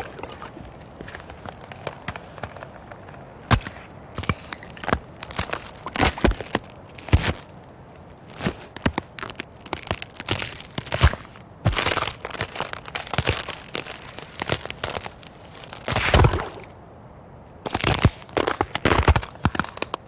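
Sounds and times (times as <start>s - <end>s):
ice cracking and snapping: 0.0s - 16.7s, 17.6s - 20.0s.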